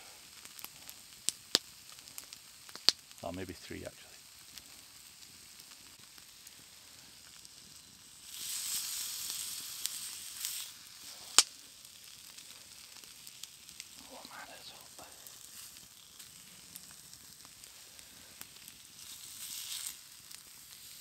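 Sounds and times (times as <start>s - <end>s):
burning wood popping: 0.0s - 21.0s
meat sizzling on hot rock: 0.0s - 21.0s
wood fire crackling: 0.0s - 21.0s.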